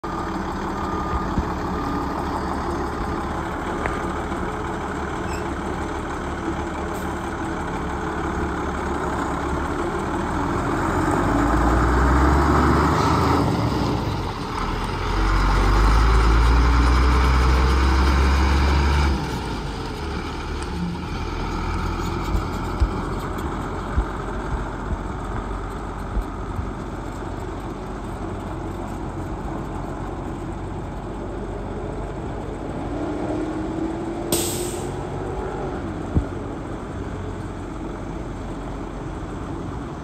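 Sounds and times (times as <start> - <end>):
diesel truck engine: 0.0 - 40.0.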